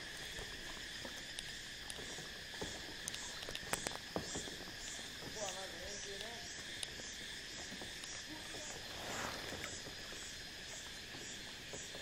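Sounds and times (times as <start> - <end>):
insects buzzing: 0.0 - 12.0
paddle splashing water: 0.0 - 12.0.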